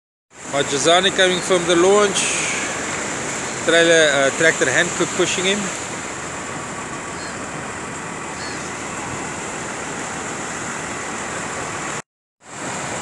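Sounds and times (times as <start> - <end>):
surf: 0.4 - 13.0
tractor pushing trailer on sand: 0.4 - 13.0.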